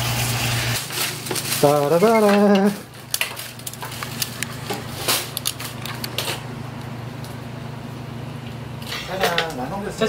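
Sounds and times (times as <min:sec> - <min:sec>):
steady low hum: 0:00.1 - 0:10.0.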